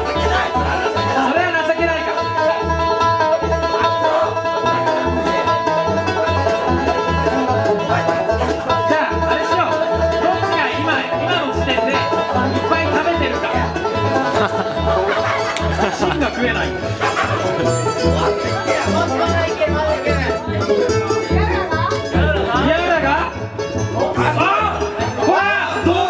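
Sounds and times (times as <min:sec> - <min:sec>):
banjo picking runs: 0:00.0 - 0:26.0
bass line: 0:00.0 - 0:26.0
bluegrass band playing: 0:00.0 - 0:26.0.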